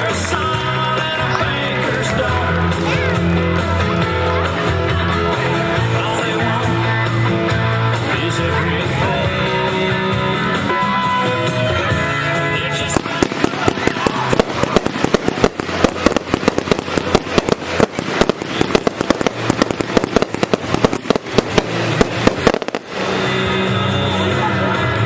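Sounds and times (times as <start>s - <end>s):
firework bangs and crackles: 0.0s - 25.0s
music: 0.0s - 25.0s.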